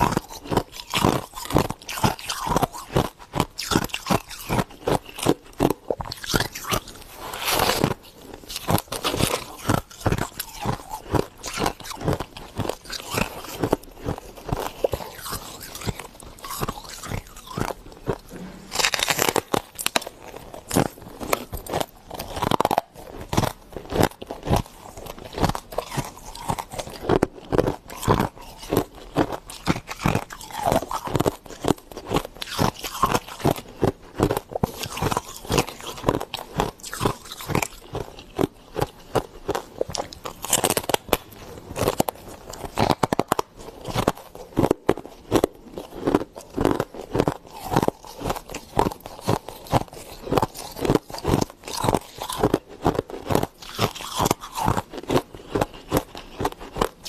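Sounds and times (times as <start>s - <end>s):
frost being chewed: 0.0s - 57.0s.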